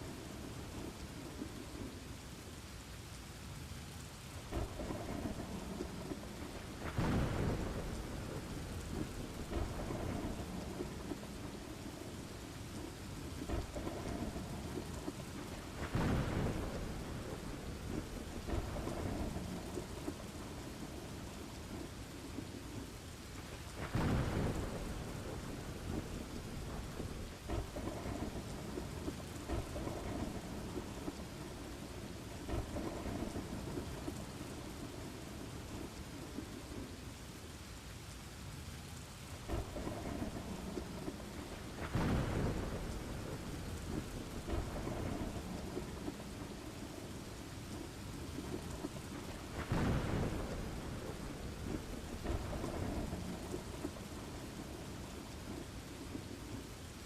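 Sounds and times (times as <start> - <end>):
heavy rain: 0.0 - 57.0
thunder rumbling: 4.4 - 37.0, 39.4 - 57.0.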